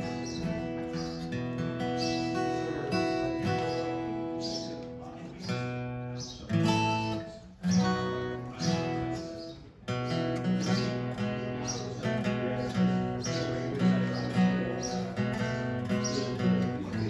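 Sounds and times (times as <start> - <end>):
fingerpicked acoustic guitar: 0.0 - 17.0.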